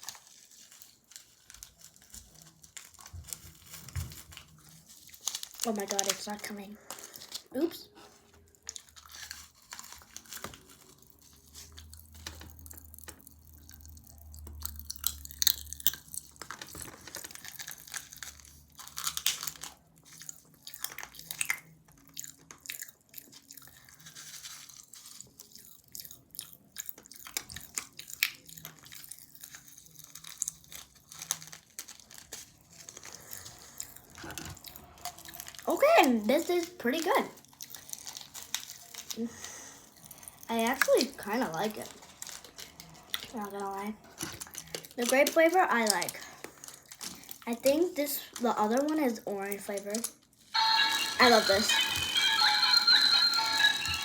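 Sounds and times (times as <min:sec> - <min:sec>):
person chewing crunchy candy: 0:00.0 - 0:35.8, 0:36.6 - 0:47.4.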